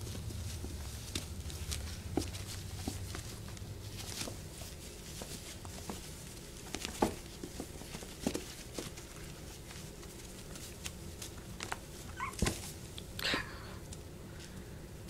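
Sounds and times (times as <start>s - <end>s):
puppy pads rustling: 0.0s - 13.2s.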